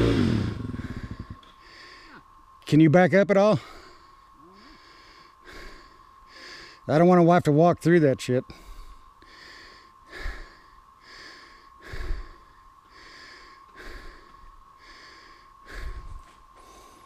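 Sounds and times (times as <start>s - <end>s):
man breathing hard: 0.2s - 2.3s, 3.6s - 6.9s, 8.5s - 17.0s.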